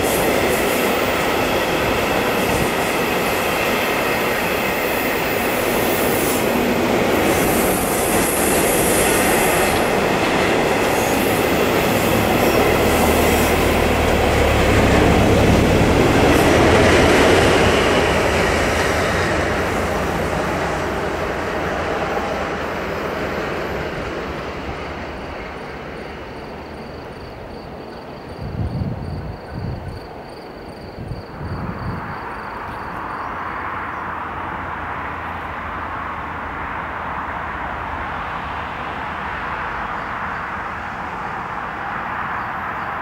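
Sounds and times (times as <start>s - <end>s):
distant road traffic hiss: 0.0s - 43.0s
freight train rumbling past: 0.0s - 43.0s.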